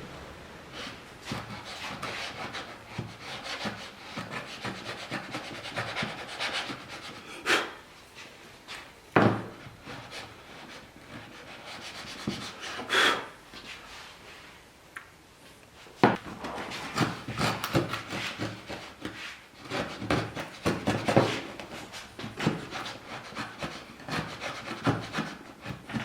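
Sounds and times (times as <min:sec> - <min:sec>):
hand tool scraping wood: 0:00.7 - 0:14.0, 0:16.1 - 0:26.0.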